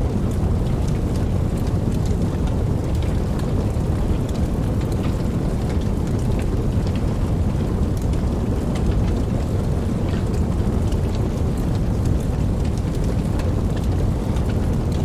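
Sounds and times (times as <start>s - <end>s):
rain drops ticking: 0.0s - 15.0s.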